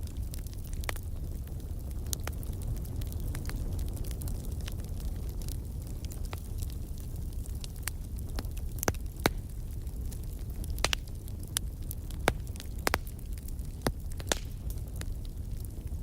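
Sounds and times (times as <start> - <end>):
firewood burning with crackles: 0.0 - 16.0.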